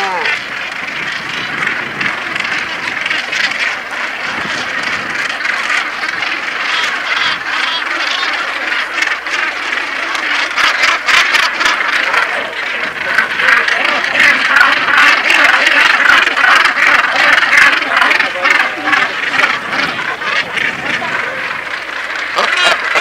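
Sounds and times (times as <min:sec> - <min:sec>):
seabird colony calling: 0:00.0 - 0:23.0.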